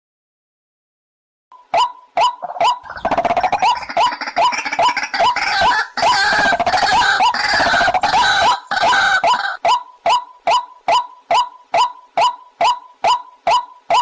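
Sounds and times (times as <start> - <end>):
bird calling repeated rising notes: 1.6 - 14.0
harsh croaking bird calls: 2.2 - 14.0.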